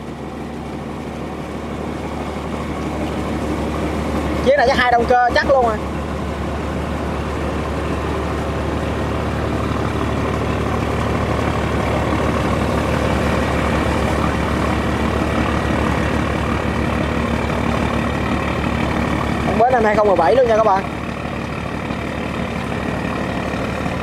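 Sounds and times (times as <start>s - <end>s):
boat diesel engine droning: 0.0s - 24.0s.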